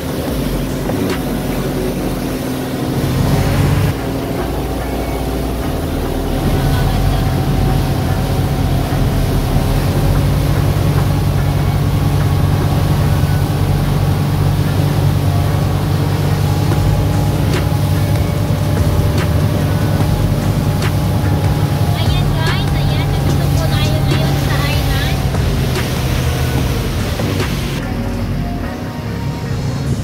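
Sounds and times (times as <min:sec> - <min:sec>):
motorboat engine running: 0:00.0 - 0:30.0.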